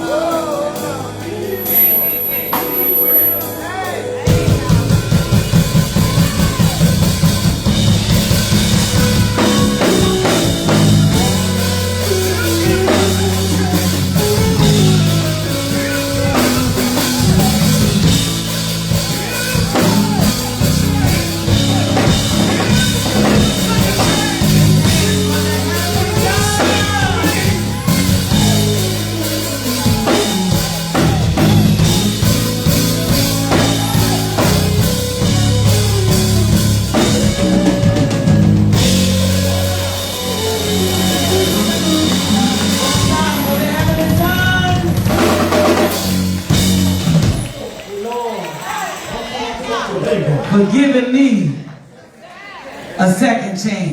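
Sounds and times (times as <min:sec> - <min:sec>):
person singing: 0:00.0 - 0:46.1
bass line: 0:00.0 - 0:47.8
drum kit: 0:00.0 - 0:49.6
live gospel band music: 0:00.0 - 0:53.9.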